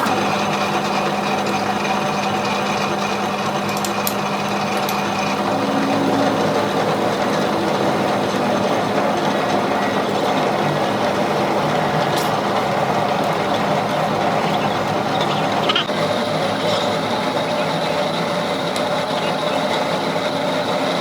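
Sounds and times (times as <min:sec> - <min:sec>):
machine whirring: 0:00.0 - 0:21.0.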